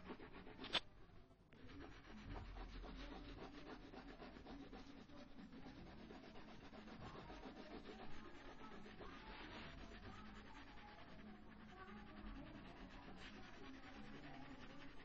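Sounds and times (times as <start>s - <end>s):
colouring strokes on paper: 0.0s - 0.8s, 1.6s - 15.0s.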